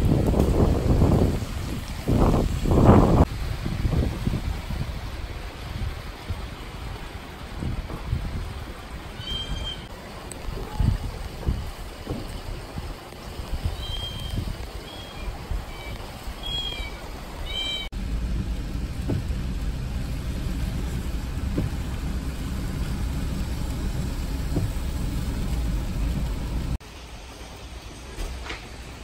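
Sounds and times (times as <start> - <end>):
car driving on wet road: 0.0 - 9.2, 9.9 - 26.8
wind noise: 0.0 - 26.8.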